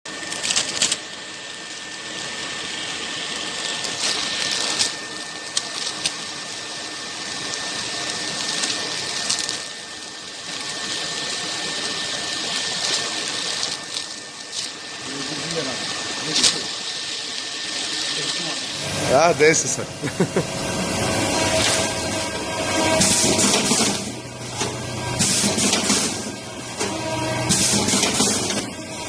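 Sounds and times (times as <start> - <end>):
packaging machine whirring: 0.1 - 29.0.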